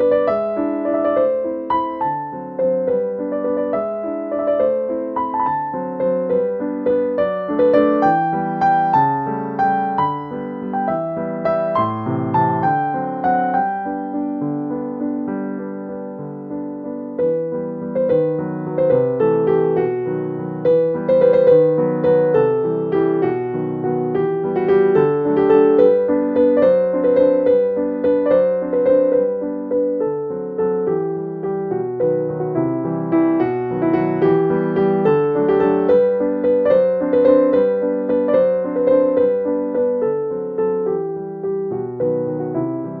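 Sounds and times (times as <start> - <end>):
gentle piano melody: 0.0 - 43.0.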